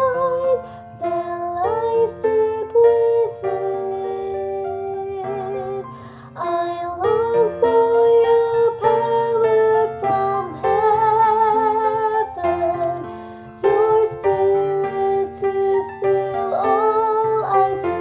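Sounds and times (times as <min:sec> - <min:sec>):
soprano woman singing: 0:00.0 - 0:18.0.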